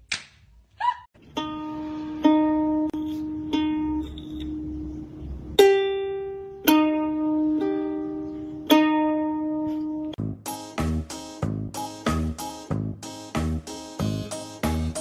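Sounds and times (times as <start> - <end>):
plucked string notes: 1.2 - 15.0.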